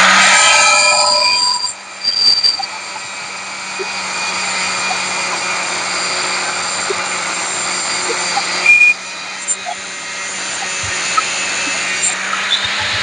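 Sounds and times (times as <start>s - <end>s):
loud metallic ringing: 0.0s - 13.0s
power tool motor hum: 1.2s - 13.0s.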